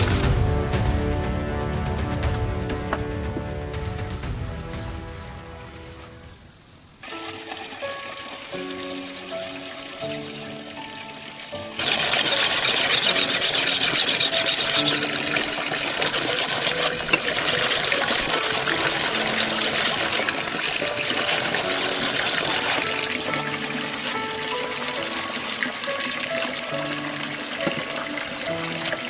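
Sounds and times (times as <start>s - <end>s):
loud rushing hiss: 0.0s - 27.4s
background music: 0.0s - 29.0s.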